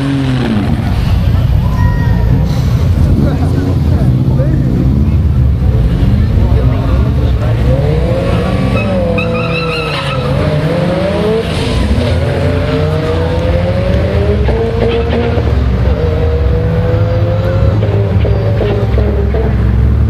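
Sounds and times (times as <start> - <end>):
drag car engines revving: 0.0 - 20.0.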